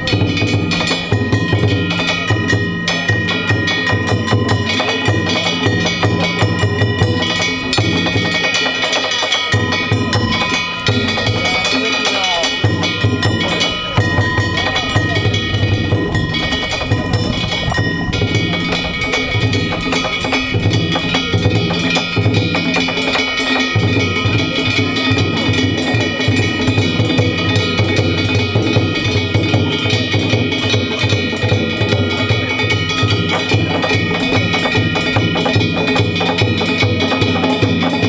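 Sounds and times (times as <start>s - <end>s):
hand gongs ringing: 0.0s - 38.0s
large drum beaten fast: 0.0s - 38.0s.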